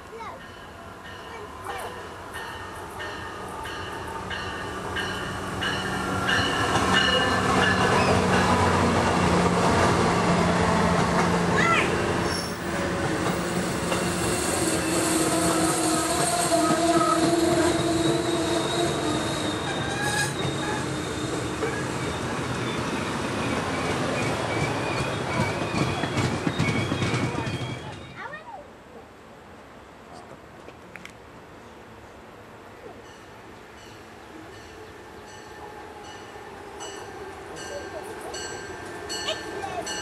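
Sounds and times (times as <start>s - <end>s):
diesel locomotive engine humming: 0.0s - 28.0s, 33.8s - 40.0s.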